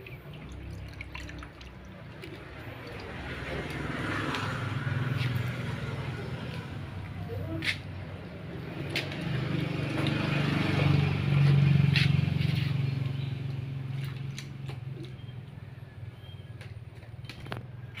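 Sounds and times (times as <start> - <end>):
passing vehicle engine hum: 0.0 - 18.0.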